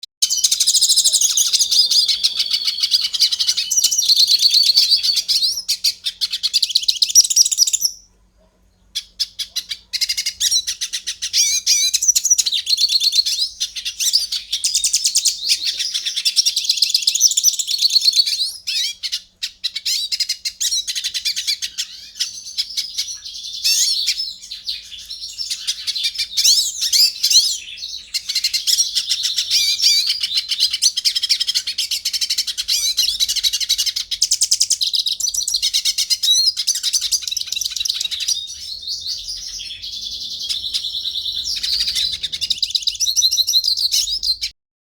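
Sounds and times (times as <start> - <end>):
small birds chirping chorus: 0.2 - 44.6.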